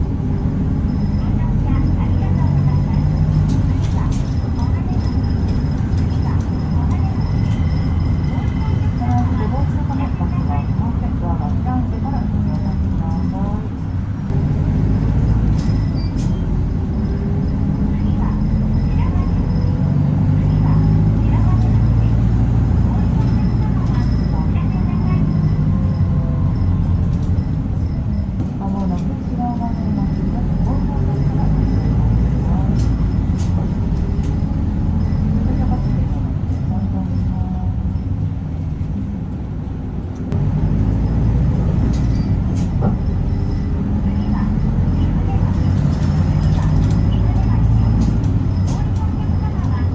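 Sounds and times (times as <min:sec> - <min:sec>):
bus engine running: 0:00.0 - 0:49.9.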